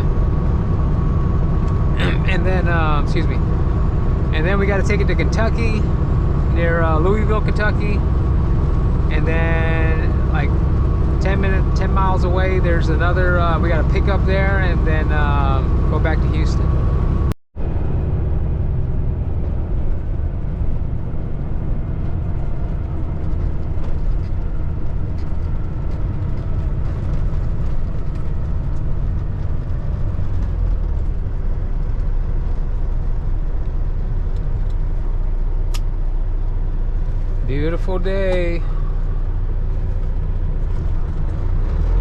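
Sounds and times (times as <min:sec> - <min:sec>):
road noise: 0:00.0 - 0:42.0
truck diesel engine drone: 0:00.0 - 0:42.0.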